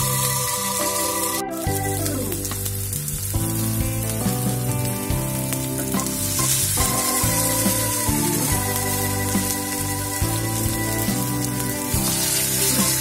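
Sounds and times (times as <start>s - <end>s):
background music: 0.0s - 13.0s
batter sizzling in hot oil: 0.0s - 13.0s.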